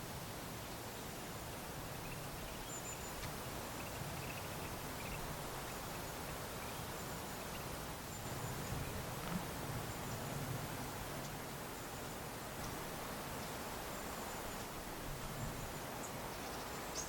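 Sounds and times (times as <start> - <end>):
wind blowing: 1.7 - 16.3.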